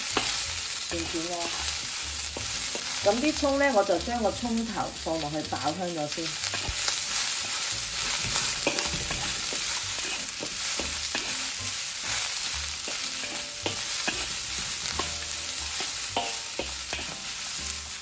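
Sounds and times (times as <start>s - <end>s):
food sizzling in hot oil: 0.0s - 18.0s
spatula scraping a wok: 0.0s - 18.0s.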